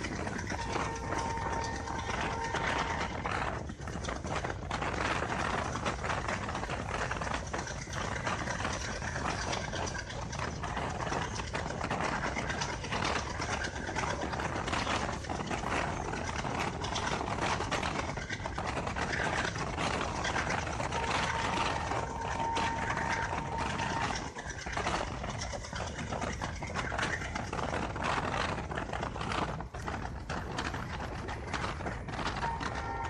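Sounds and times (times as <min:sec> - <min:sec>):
thin steady whine: 0:00.0 - 0:33.0
train wheels clattering: 0:00.0 - 0:33.0.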